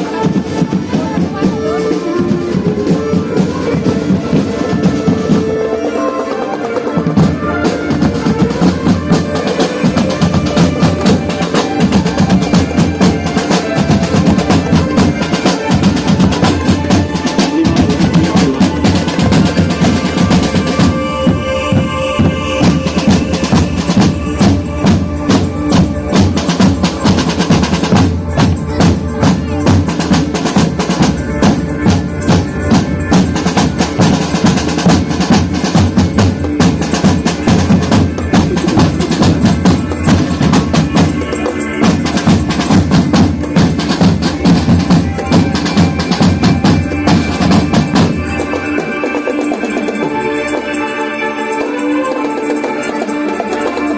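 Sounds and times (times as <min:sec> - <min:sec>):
marching band drums: 0:00.0 - 0:50.8
marching band melody: 0:00.0 - 0:53.9.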